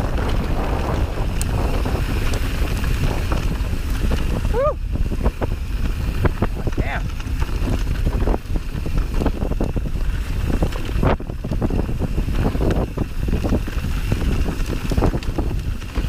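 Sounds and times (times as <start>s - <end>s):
bike rattling over rough ground: 0.0s - 16.0s
wind buffeting microphone: 0.0s - 16.0s.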